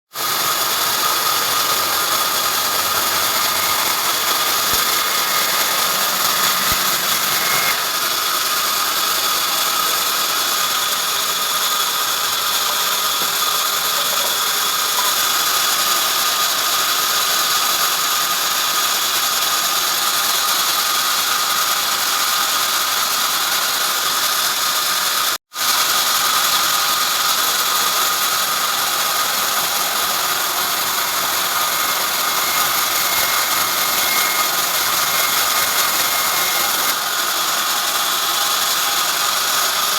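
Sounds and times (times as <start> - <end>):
sawmill machinery whining: 0.2 - 18.1, 25.8 - 39.9.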